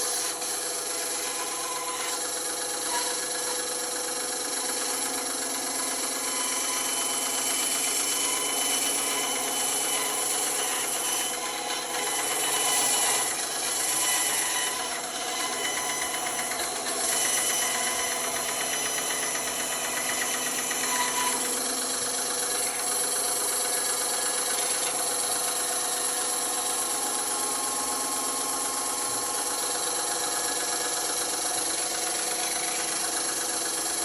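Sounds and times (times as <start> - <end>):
electric saw rattling: 0.0 - 34.0.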